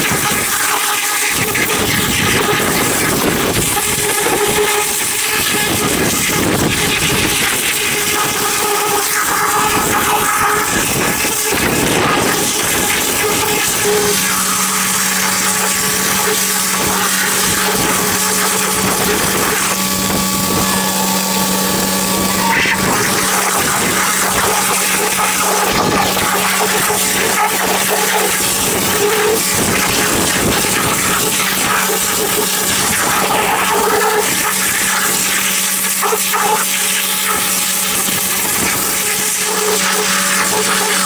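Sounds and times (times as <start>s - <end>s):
low machine hum: 0.0s - 41.0s
pressure washer spray hissing: 0.1s - 41.0s.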